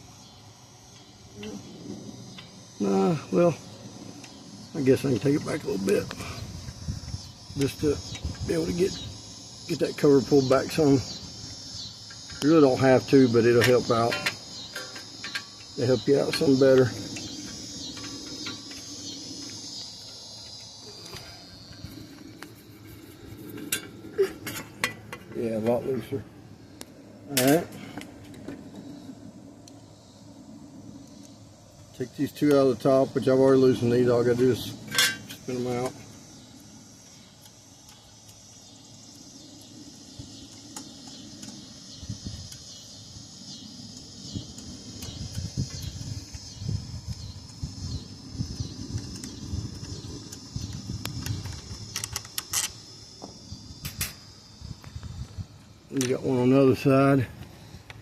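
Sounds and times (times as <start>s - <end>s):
crickets trilling: 0.0s - 58.0s
insects chirring: 0.0s - 58.0s.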